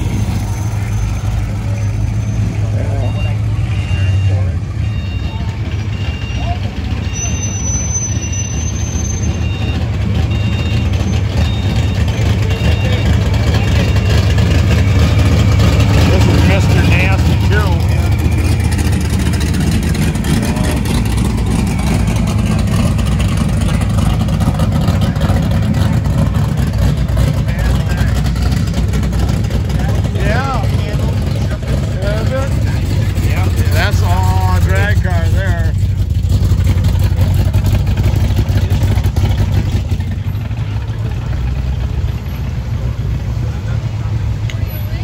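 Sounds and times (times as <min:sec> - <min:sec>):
car engine rumbling past: 0:00.0 - 0:45.0.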